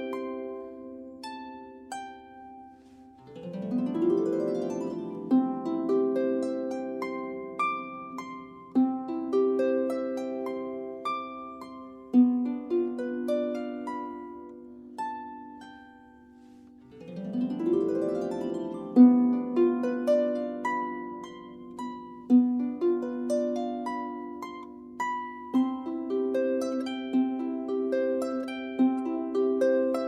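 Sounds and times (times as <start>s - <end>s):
harp playing: 0.0s - 30.0s.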